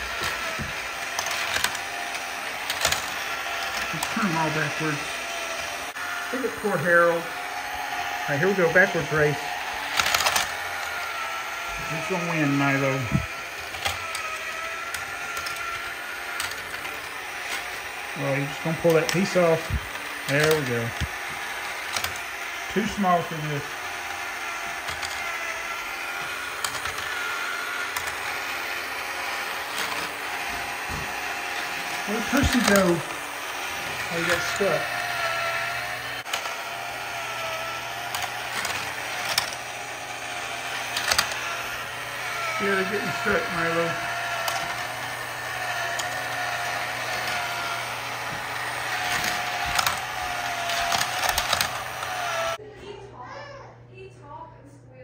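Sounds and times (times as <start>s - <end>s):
clicks: 0.0s - 52.6s
toy train mechanical whir: 0.0s - 52.6s
electric motor whine: 0.0s - 53.0s.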